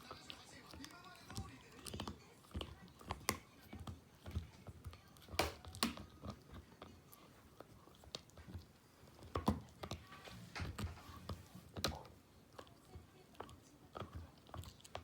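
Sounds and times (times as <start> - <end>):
dog gnawing a chew: 0.0 - 15.0.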